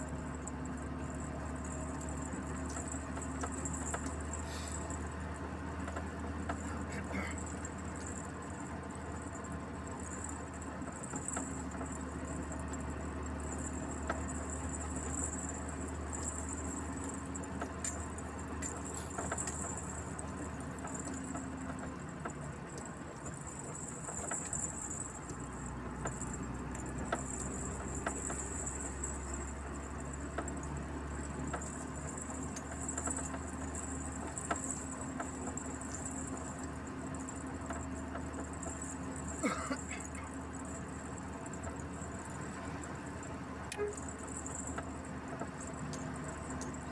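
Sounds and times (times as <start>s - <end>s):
small rattling ticks: 0.0s - 46.9s
truck engine and road rumble: 0.0s - 46.9s.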